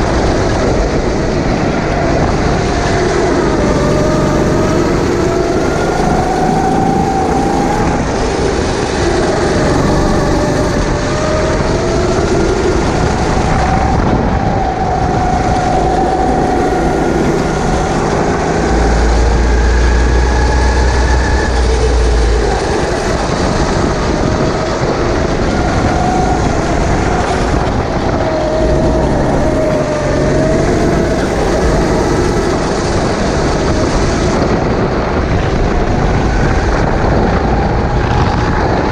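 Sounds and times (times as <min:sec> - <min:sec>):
kart engine revving: 0:00.0 - 0:38.9
low rumble: 0:00.0 - 0:38.9.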